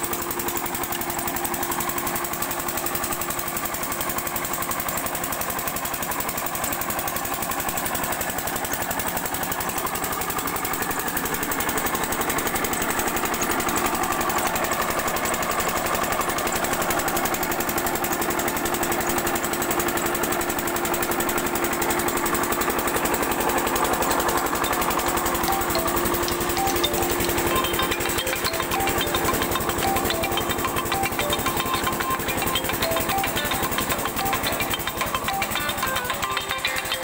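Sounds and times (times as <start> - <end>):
diesel pump engine running: 0.0 - 37.0.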